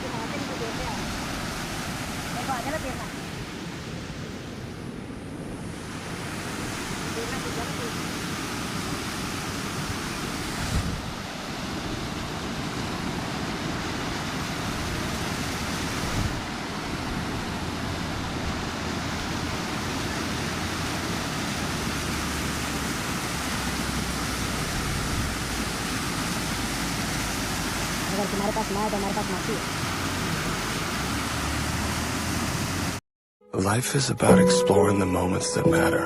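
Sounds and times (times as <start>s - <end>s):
waterfall rushing: 0.0s - 4.6s, 5.6s - 33.0s.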